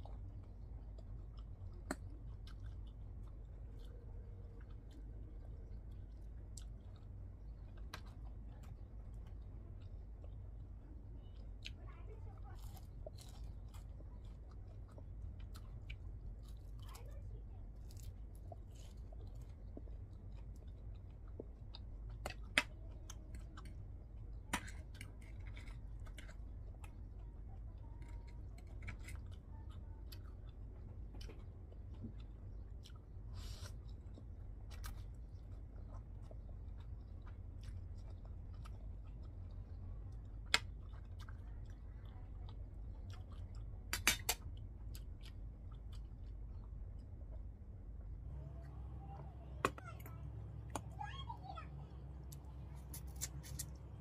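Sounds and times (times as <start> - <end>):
person chewing noodles: 0.0 - 48.8
steady low hum: 0.0 - 54.0.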